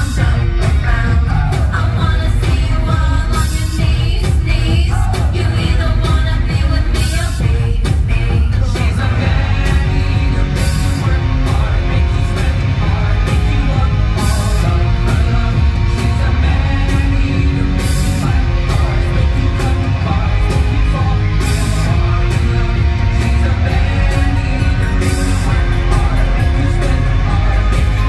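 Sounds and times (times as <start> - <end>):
loud rock music: 0.0 - 28.0.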